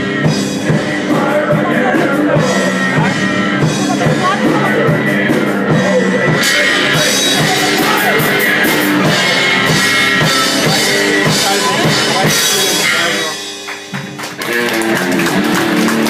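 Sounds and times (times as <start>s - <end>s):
drum kit: 0.0s - 16.0s
electric guitar: 0.0s - 16.0s
live rock band playing: 0.0s - 16.0s.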